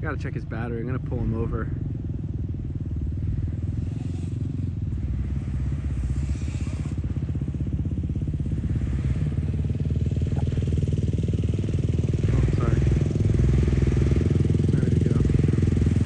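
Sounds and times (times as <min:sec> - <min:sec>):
low pulsing mechanical rumble: 0:00.0 - 0:16.0.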